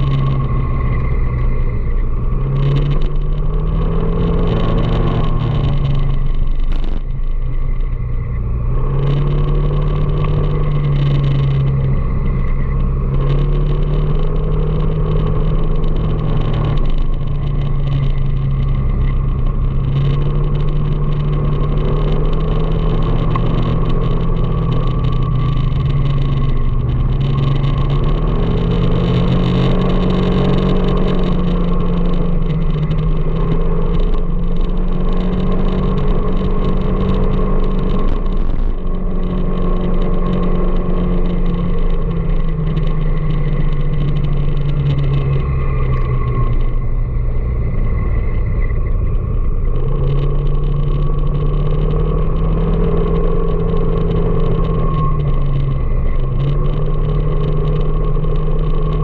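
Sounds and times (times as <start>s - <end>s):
road noise rumble: 0.0s - 59.0s
vehicle engine running: 0.0s - 59.0s.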